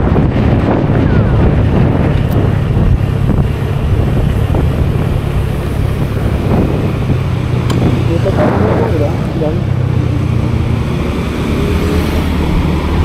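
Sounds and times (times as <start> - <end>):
scooter engine droning: 0.0 - 13.0
wind rushing over microphone: 0.0 - 13.0.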